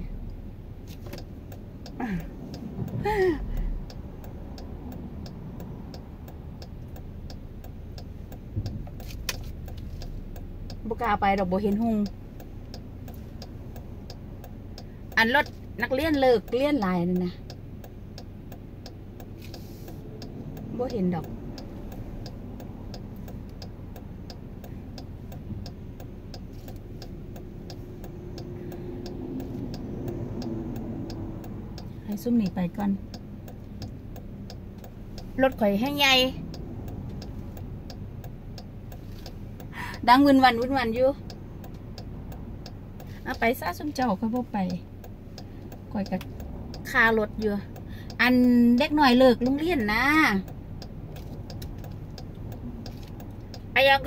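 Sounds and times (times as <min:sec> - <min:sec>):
car turn signal ticking: 0:00.0 - 0:54.0
engine and road rumble: 0:00.0 - 0:54.0.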